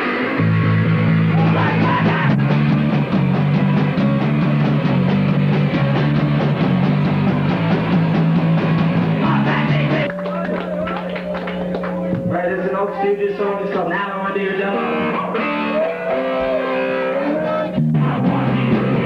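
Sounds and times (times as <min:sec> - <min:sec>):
punk band playing live: 0:00.0 - 0:19.0.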